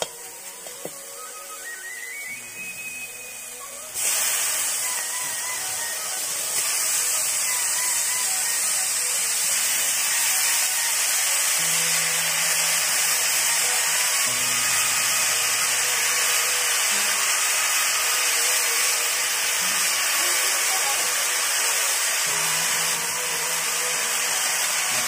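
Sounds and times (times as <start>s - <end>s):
food hissing in a pot: 0.0s - 25.0s.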